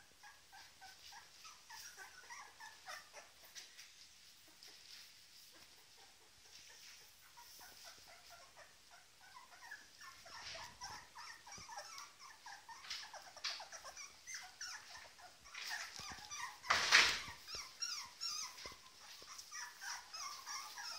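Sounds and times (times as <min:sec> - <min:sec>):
puppies squeaking and whimpering: 0:00.0 - 0:20.9
rustle: 0:00.2 - 0:20.9.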